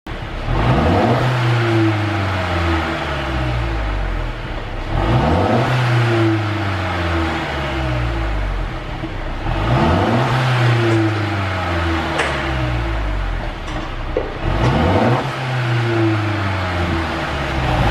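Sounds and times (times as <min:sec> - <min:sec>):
car engine revving: 0:00.1 - 0:17.9
exhaust crack: 0:00.1 - 0:17.9.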